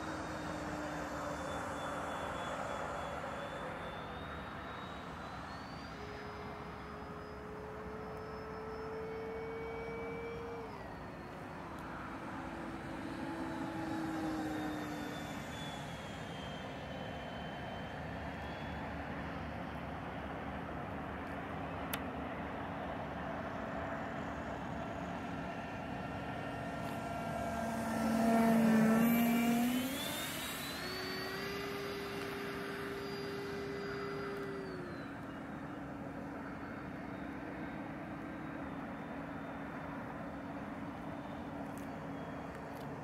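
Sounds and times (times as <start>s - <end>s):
model jet fan whine: 0.0s - 43.0s.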